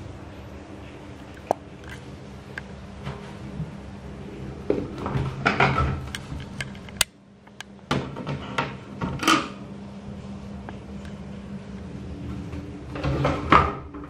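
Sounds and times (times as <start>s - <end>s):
exhaust fan humming: 0.0s - 14.0s.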